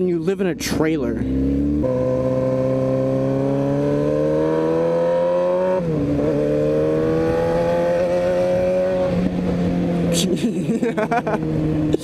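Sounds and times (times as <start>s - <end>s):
motorcycle engine accelerating: 0.8s - 12.0s.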